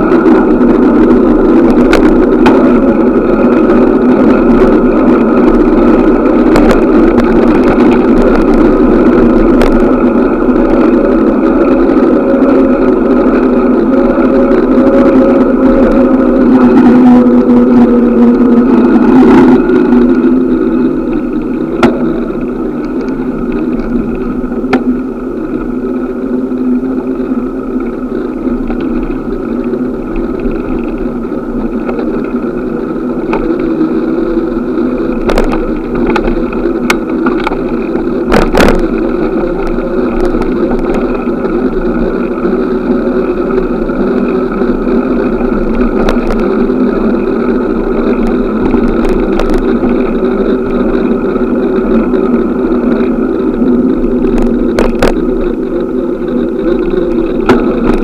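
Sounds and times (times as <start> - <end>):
city traffic: 0.0 - 58.0
sharp clicks and rattles: 0.0 - 58.0.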